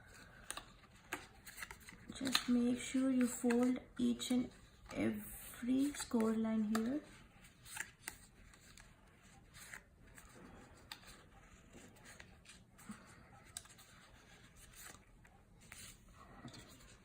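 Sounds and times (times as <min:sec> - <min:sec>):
soft clicks of cardstock folding: 0:00.0 - 0:05.0, 0:05.6 - 0:17.0
cardstock rustling: 0:00.0 - 0:17.0.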